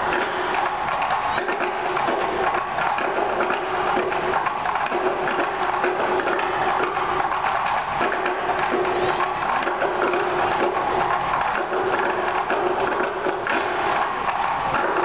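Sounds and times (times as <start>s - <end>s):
wooden drums clattering: 0.0s - 15.0s.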